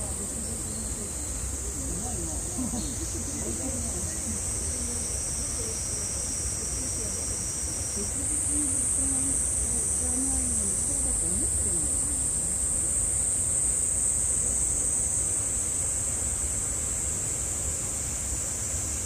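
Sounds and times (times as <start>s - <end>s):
cicadas droning: 0.0s - 19.0s
faint distant voices: 0.0s - 19.0s.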